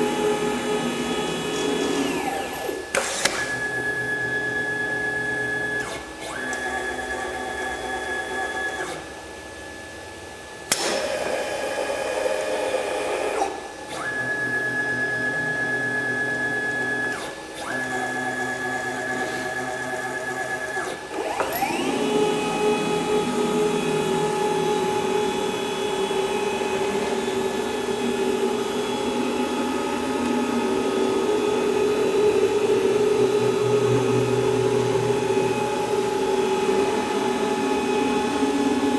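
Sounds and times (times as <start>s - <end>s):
cnc router motors whining: 0.0s - 38.9s.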